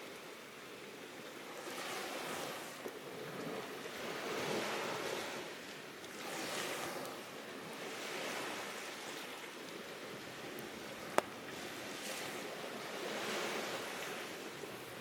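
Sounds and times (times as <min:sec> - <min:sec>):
surf washing on a shore: 0:00.0 - 0:15.0.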